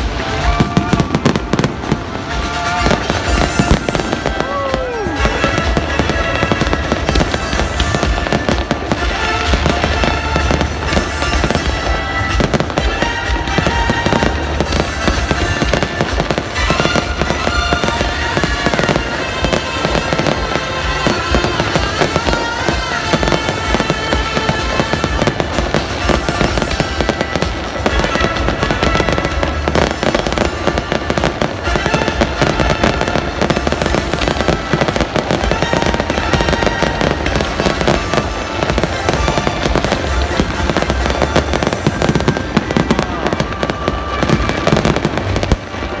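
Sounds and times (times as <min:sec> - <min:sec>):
fireworks bangs and crackles: 0:00.0 - 0:46.0
music playing: 0:00.0 - 0:46.0.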